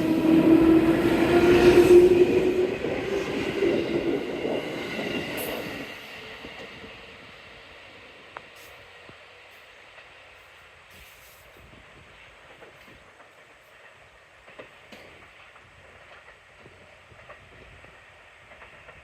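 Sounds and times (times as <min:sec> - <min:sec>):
train rolling: 0:00.0 - 0:19.0.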